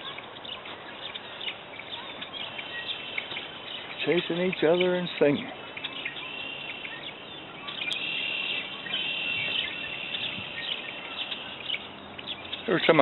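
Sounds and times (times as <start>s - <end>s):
blackbirds singing trills: 0.0s - 13.0s.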